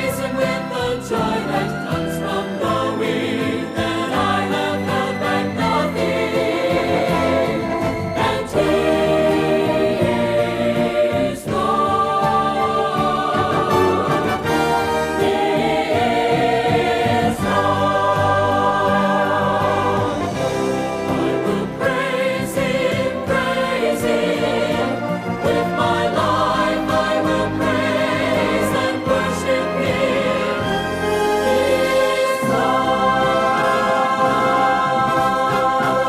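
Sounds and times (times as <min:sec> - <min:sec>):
choir singing gospel song: 0:00.0 - 0:36.0
instrumental accompaniment: 0:00.0 - 0:36.0.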